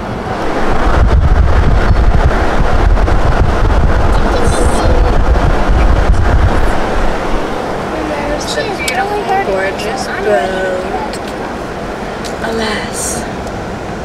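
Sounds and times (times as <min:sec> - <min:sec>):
car driving rumble: 0:00.0 - 0:14.0
wind buffeting microphone: 0:00.0 - 0:14.0.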